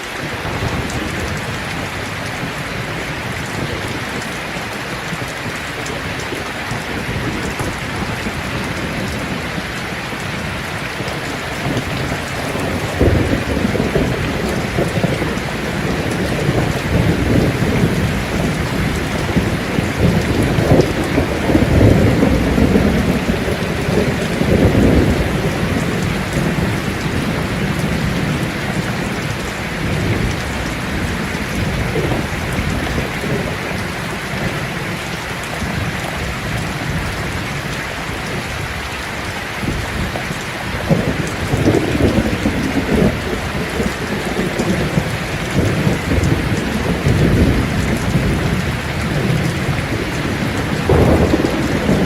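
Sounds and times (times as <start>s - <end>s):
rolling thunder rumble: 0.0s - 39.0s, 39.6s - 52.0s
steady rain falling: 0.0s - 52.0s.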